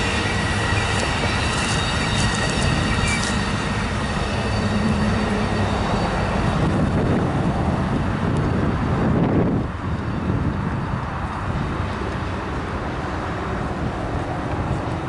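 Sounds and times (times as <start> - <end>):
train wheels rumbling over rails: 0.0 - 15.0.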